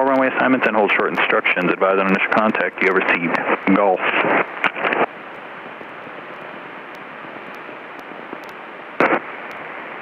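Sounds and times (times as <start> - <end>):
radio hiss: 0.0 - 10.0.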